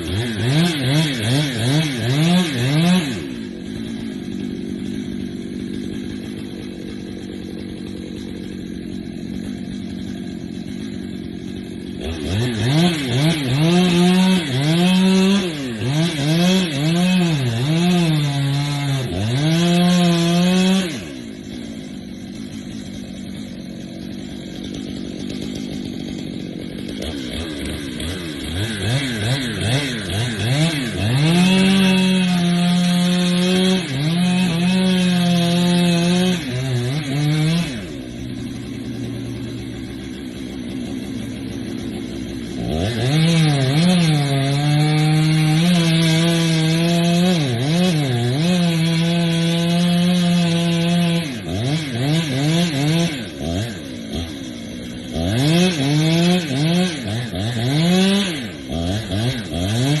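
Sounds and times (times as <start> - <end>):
chainsaw cutting tree: 0.0 - 60.0.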